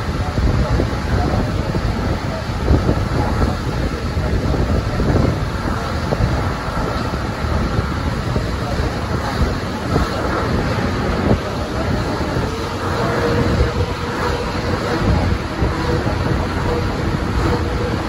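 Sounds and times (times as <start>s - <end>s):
train coach rumbling on rails: 0.0s - 18.0s
wind noise on microphone: 0.0s - 18.0s.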